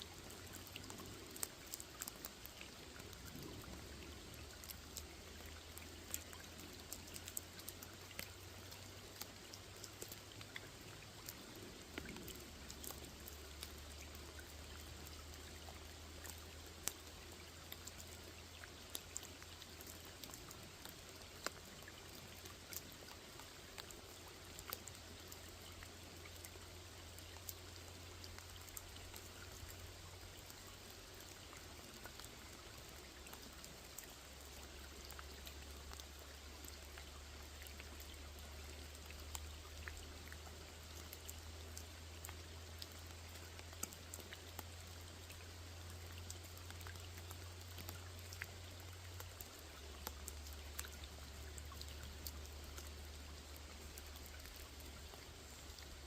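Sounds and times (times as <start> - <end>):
low steady hum: 0.0 - 56.0
rain falling on lake: 0.0 - 56.0.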